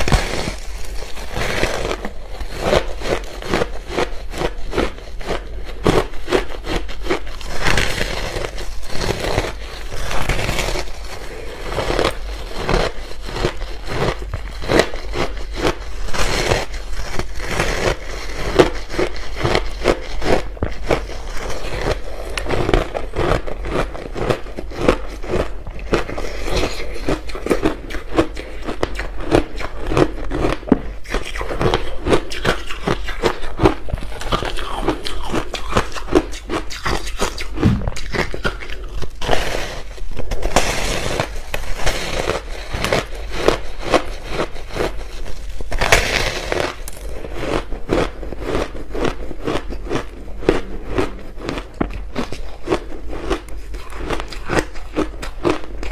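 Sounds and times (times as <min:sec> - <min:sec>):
ice crunching and chewing: 0:00.0 - 0:55.9.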